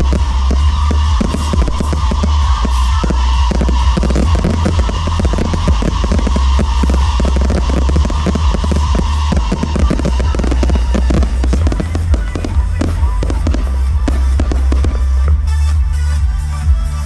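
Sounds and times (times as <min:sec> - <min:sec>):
fireworks crackling bursts: 0:00.0 - 0:17.0
loud music with heavy bass: 0:00.0 - 0:17.0.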